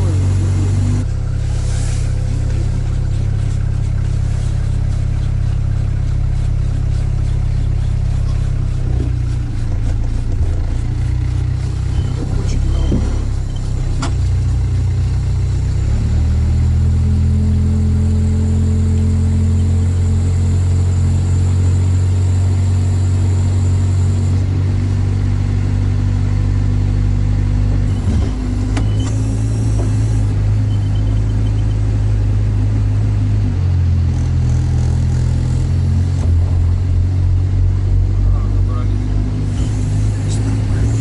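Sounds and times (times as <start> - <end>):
vehicle engine droning: 0.0 - 41.0.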